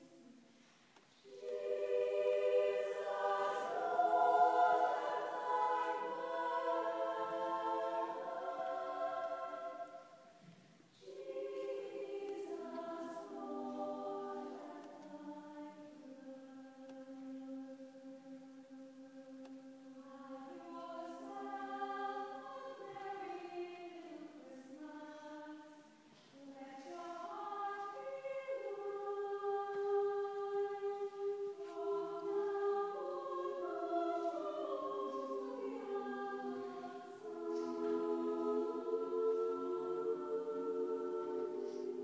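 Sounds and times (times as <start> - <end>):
choir singing a cappella: 0.0 - 42.0.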